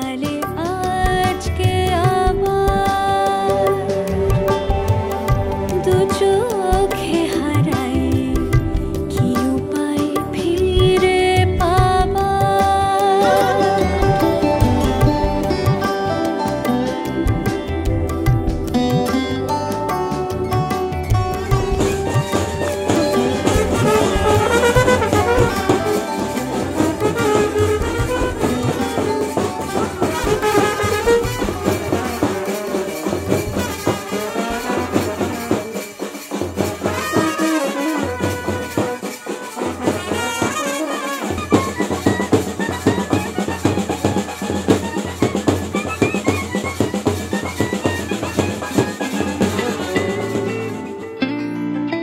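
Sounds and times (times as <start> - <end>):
melody over fast percussion beat: 0.0 - 51.2.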